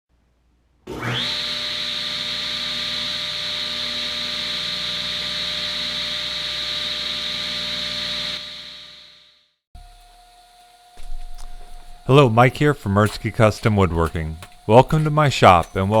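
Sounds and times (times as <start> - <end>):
power tool motor whining: 0.9 - 9.1, 9.8 - 16.0.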